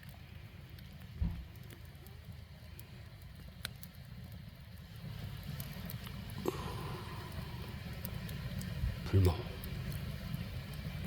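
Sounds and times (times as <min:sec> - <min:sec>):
low rumble of fire: 0:00.0 - 0:11.0
wood fire crackling: 0:00.0 - 0:11.0.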